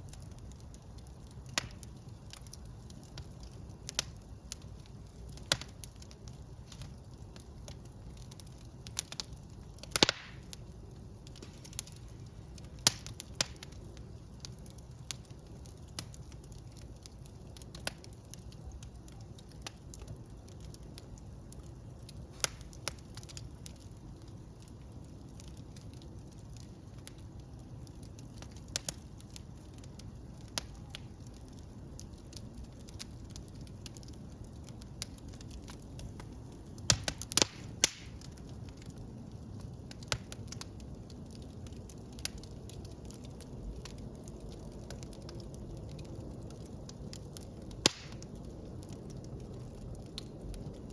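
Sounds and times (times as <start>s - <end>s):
fire crackling in fireplace: 0.0s - 50.9s.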